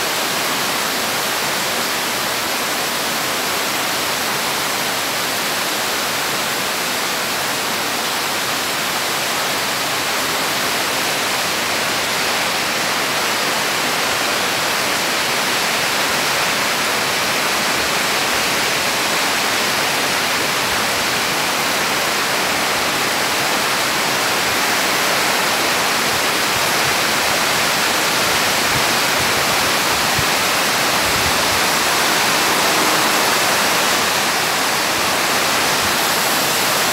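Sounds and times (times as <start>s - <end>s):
heavy rain on leaves: 0.0s - 36.9s.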